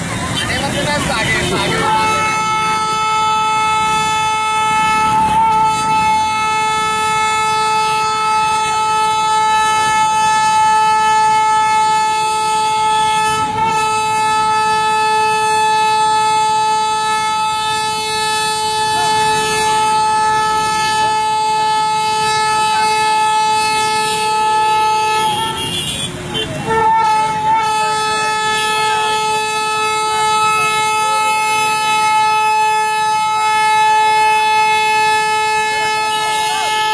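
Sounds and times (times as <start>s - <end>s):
steady horn-like tone: 0.2s - 36.9s.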